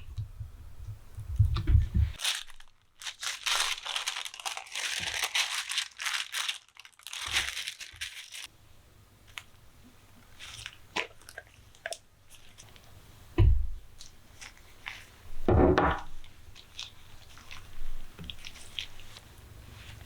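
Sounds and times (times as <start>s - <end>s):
crinkling and crackling: 0.0s - 8.5s, 10.2s - 13.0s, 13.9s - 20.0s.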